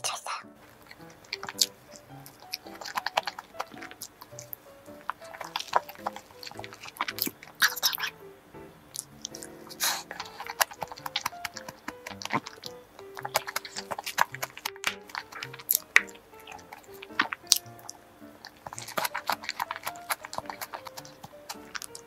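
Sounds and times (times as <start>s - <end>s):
soft background music: 0.0s - 22.0s
mouth chewing cake: 0.6s - 8.3s, 8.9s - 22.0s.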